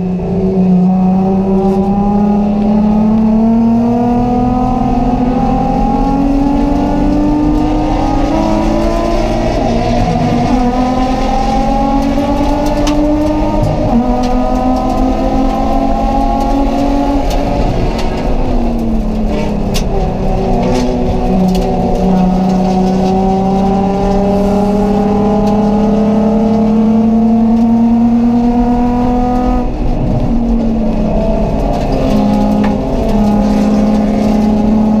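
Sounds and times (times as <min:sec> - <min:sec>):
race car engine revving through gears: 0:00.0 - 0:35.0.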